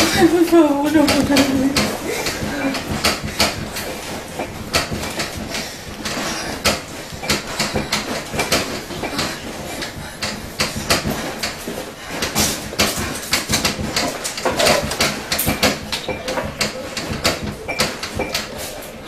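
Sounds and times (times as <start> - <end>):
objects clattering and knocking: 0.0 - 19.0.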